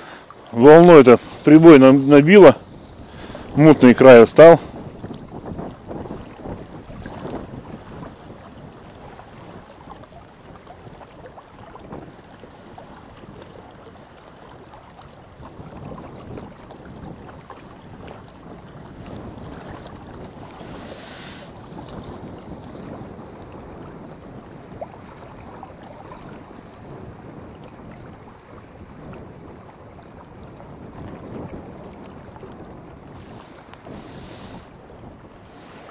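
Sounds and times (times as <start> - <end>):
small waves lapping on rocks: 0.0 - 35.9
wind buffeting microphone: 0.0 - 35.9.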